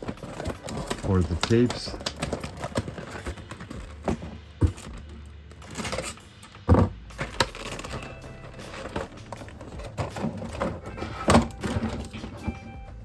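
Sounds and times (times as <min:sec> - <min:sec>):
plastic packaging clicks and knocks: 0:00.0 - 0:12.8.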